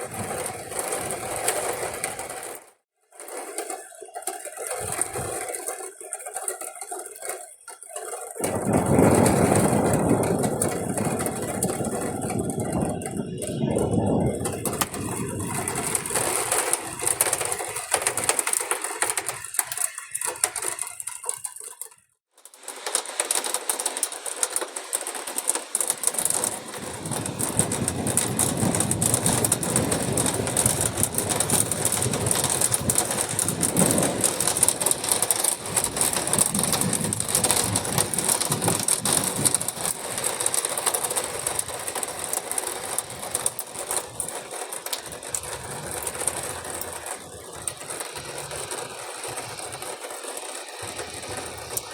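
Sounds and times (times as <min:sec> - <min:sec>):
rain and ice pellets pelting: 0:00.0 - 0:51.9.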